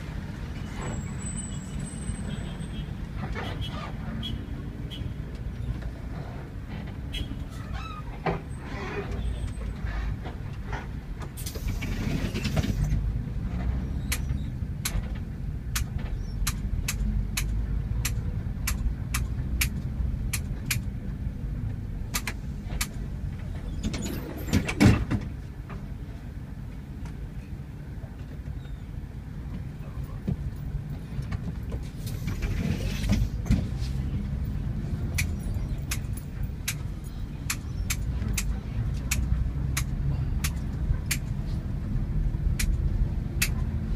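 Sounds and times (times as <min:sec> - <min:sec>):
bus engine rumble: 0:00.0 - 0:43.9.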